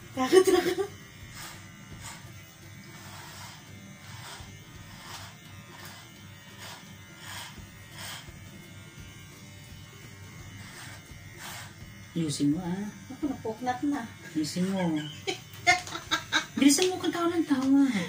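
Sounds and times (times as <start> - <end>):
clippers rasping through hair: 0.0 - 18.0
electric hair clippers buzzing: 0.0 - 18.0.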